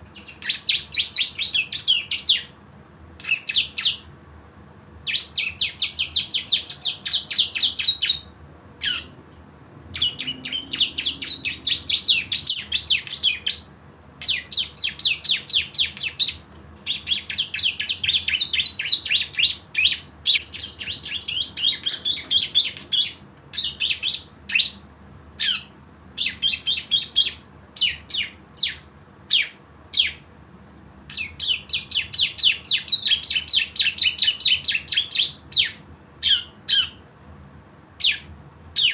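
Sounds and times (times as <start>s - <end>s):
bird trilling: 0.0s - 2.5s, 3.2s - 4.1s, 5.0s - 24.8s, 25.4s - 30.2s, 31.1s - 37.0s, 38.0s - 38.9s
sharp bird notes: 0.0s - 2.5s, 3.2s - 4.1s, 5.0s - 24.8s, 25.4s - 30.2s, 31.1s - 37.0s.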